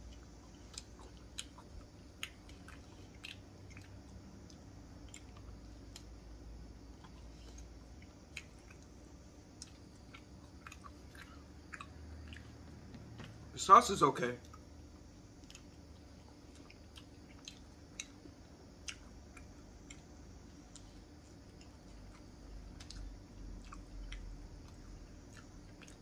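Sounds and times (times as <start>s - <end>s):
person chewing: 0.0s - 6.2s, 6.9s - 13.4s, 15.4s - 26.0s.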